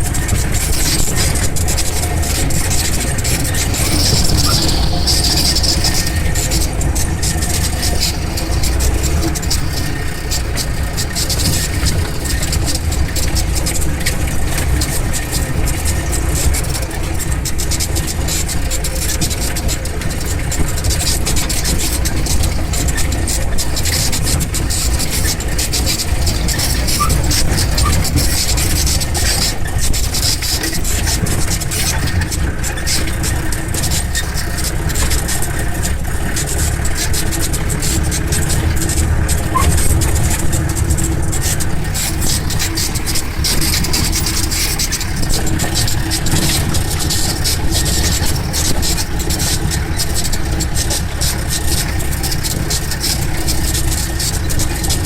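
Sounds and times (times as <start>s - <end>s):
car engine running: 0.0s - 55.0s
rattles and knocks: 0.0s - 55.0s
road and wind noise: 0.0s - 55.0s.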